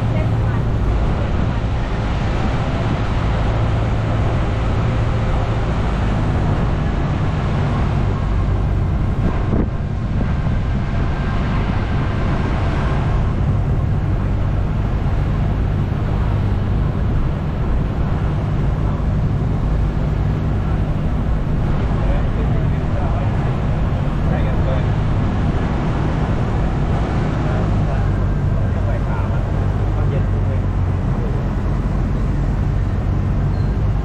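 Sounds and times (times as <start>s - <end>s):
road and wind noise: 0.0s - 34.0s
vehicle engine running: 0.0s - 34.0s.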